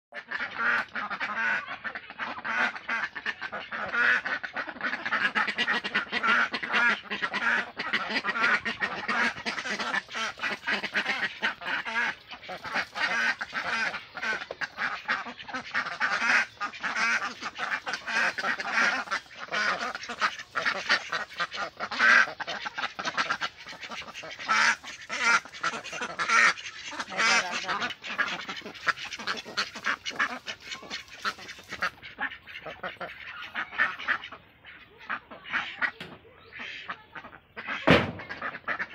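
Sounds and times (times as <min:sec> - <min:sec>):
ducks quacking: 0:00.1 - 0:38.9.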